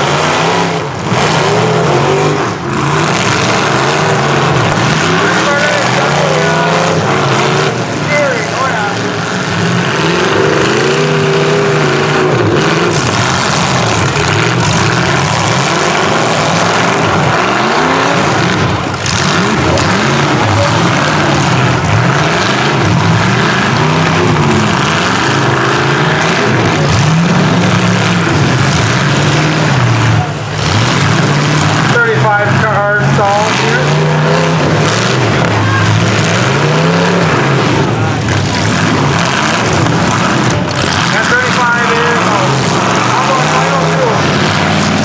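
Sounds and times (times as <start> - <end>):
engines revving: 0.0 - 45.0.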